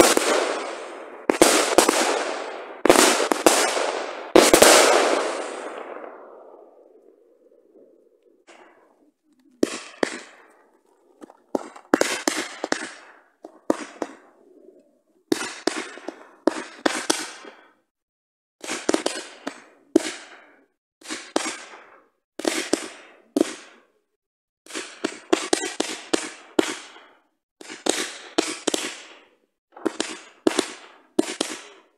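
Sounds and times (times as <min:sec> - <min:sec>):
fireworks bangs: 0:00.0 - 0:14.4, 0:15.2 - 0:17.8, 0:18.6 - 0:23.9, 0:24.7 - 0:31.9.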